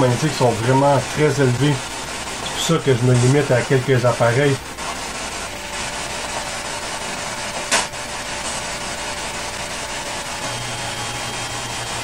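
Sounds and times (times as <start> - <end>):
freezer motor humming: 0.0 - 12.0.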